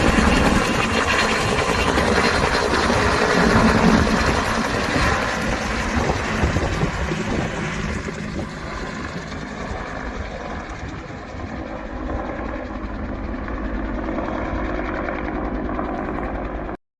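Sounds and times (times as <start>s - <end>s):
helicopter rotor and engine: 0.0s - 16.8s.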